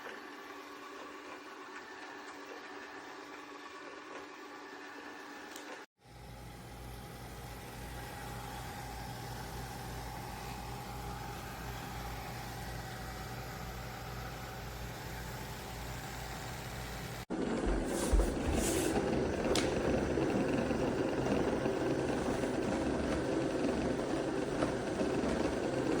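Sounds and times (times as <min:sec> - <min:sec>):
motor hum with low rumble: 0:00.0 - 0:26.0.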